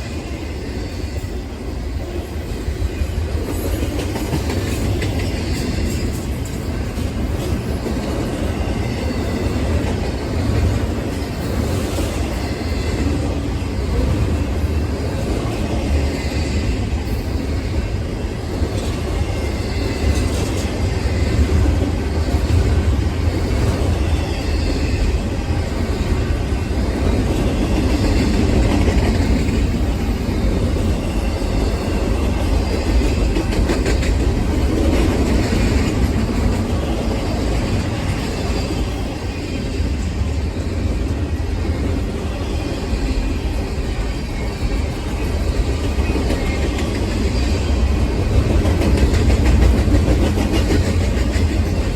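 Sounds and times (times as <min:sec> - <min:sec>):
train rumbling past: 0:00.0 - 0:51.9
wheels clattering on rails: 0:00.0 - 0:51.9.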